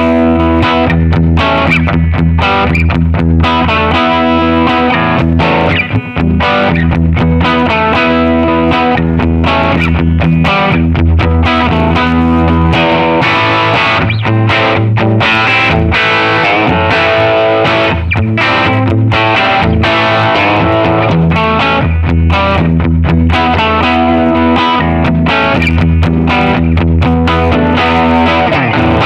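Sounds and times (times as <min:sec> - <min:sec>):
distorted electric guitar: 0:00.0 - 0:29.0.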